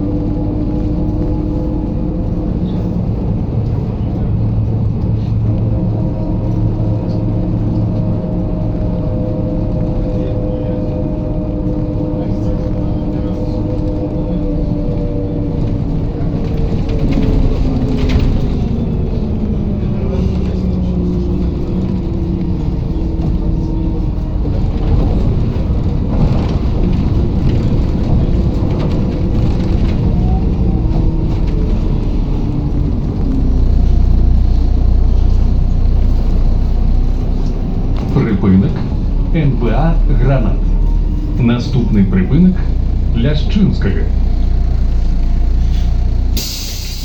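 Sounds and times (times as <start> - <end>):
bus engine drone: 0.0 - 47.0
low rumble: 0.0 - 47.0.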